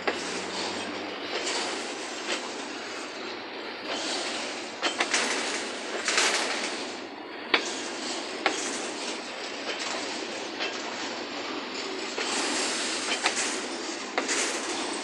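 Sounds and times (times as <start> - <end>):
train wheels rumbling on rails: 0.0 - 15.0
wheels clicking over rail joints: 0.0 - 15.0.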